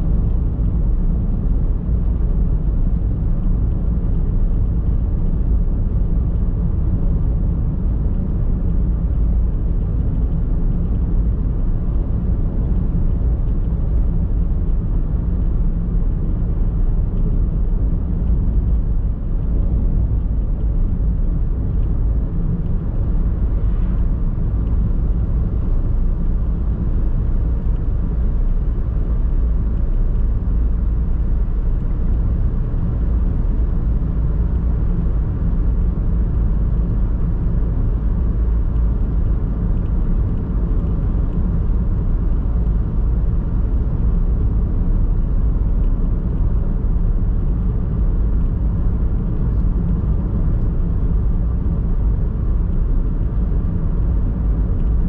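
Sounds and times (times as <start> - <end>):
car driving on paved road: 0.0 - 55.0.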